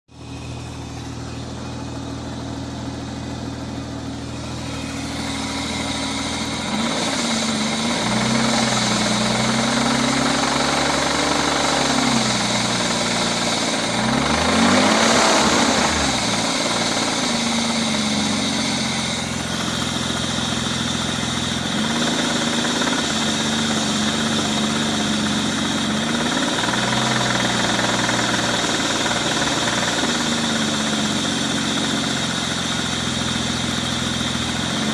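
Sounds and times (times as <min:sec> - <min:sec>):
engine knock: 0:00.1 - 0:34.9
car engine revving: 0:00.2 - 0:34.9.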